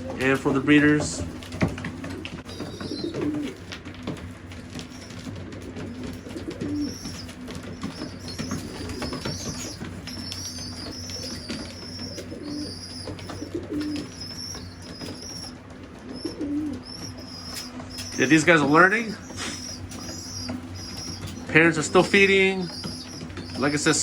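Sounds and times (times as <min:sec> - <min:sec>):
pigeons cooing: 0:00.0 - 0:24.0
young pigeons squeaking: 0:00.0 - 0:24.0.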